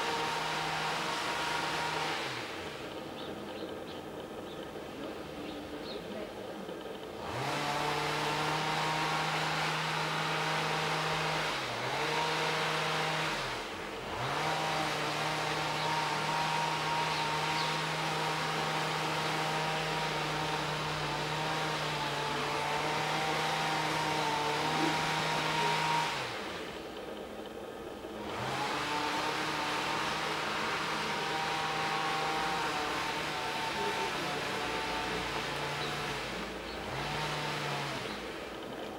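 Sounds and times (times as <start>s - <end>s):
motor-driven machine humming: 0.0s - 38.9s.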